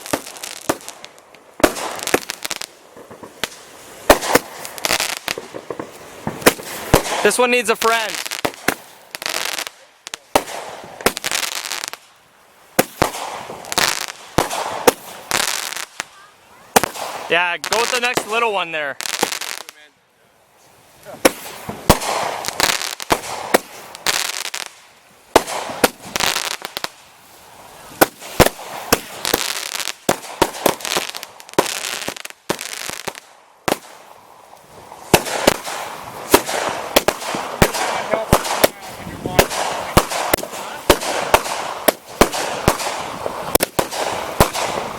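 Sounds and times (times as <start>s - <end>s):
fireworks bangs: 0.0s - 19.9s, 21.0s - 44.9s
fireworks crackling: 0.0s - 44.9s.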